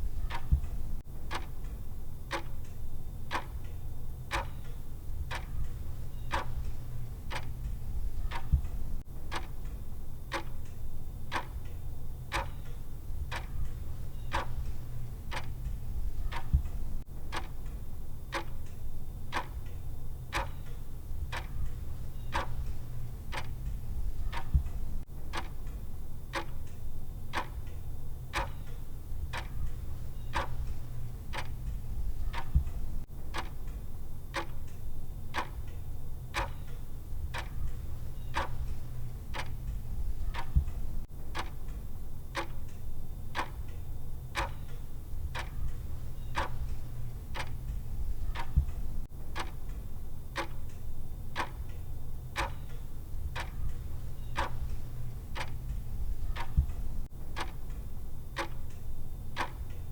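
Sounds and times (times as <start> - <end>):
clock ticking: 0.0 - 59.9
low steady hum: 0.0 - 59.9.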